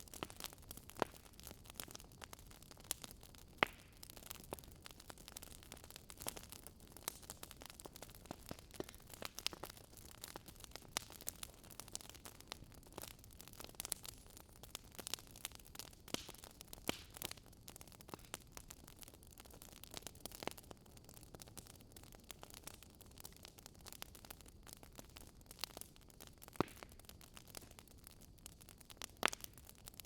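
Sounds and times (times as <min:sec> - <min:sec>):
campfire crackling: 0:00.0 - 0:30.0
low steady hiss: 0:00.0 - 0:30.0.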